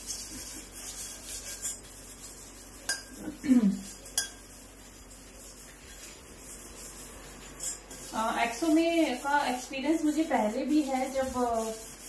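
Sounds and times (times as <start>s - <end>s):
scouring pots in sink: 0.0s - 12.0s.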